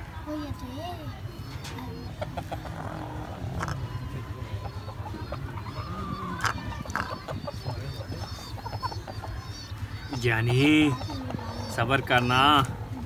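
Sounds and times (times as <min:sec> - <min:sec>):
chicken clucking: 0:01.3 - 0:13.0.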